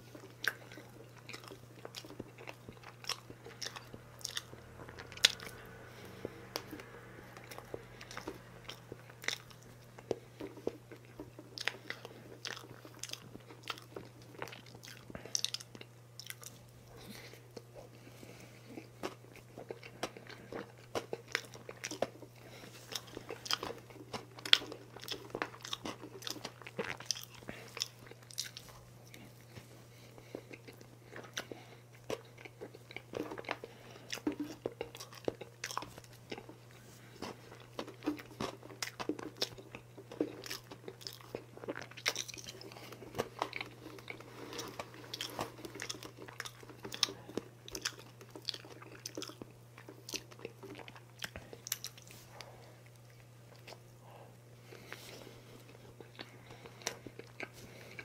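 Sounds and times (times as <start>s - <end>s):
chewing with wet mouth clicks: 0.0s - 54.0s, 54.6s - 58.0s
steady low hum: 0.0s - 58.0s.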